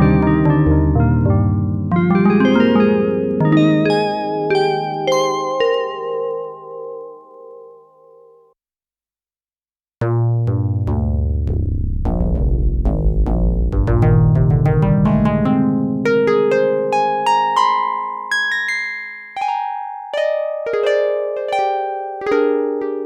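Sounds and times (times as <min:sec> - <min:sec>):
synthesizer piano-like notes: 0:00.0 - 0:08.5, 0:10.0 - 0:23.0.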